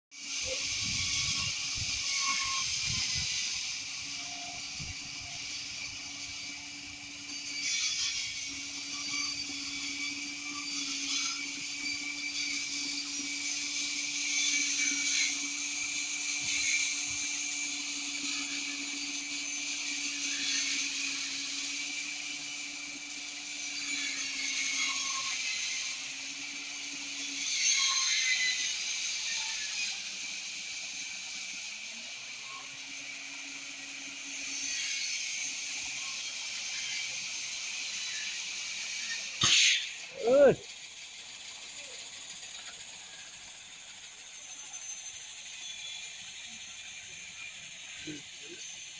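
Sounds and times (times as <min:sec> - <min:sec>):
woodworking machine humming and hissing: 0:00.2 - 0:48.9.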